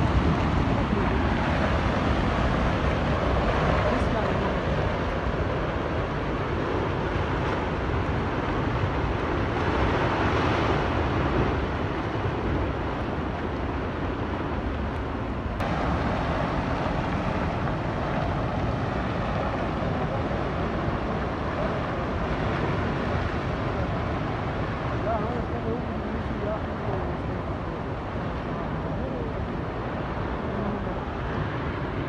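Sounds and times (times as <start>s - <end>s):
river rushing roar: 0.0s - 32.0s.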